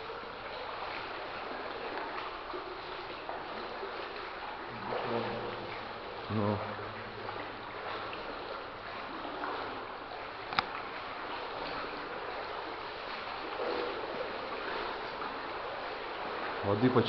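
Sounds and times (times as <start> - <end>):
legs sloshing through water: 0.0 - 17.0.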